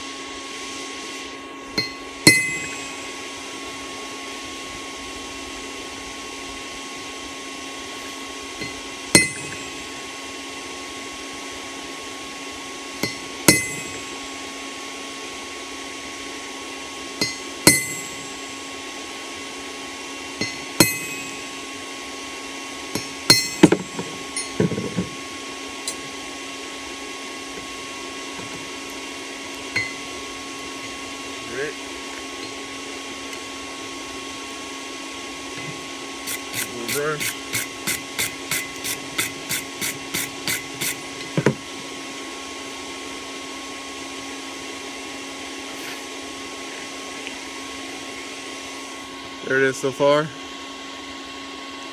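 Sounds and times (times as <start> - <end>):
steady hum: 0.0 - 51.9.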